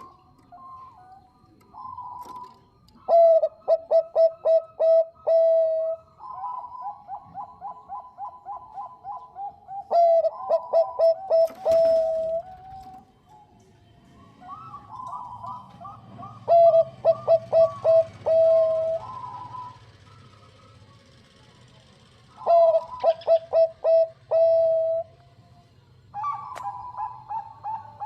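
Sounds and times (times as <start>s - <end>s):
dove staccato cooing song: 0.0s - 25.4s, 26.0s - 28.0s.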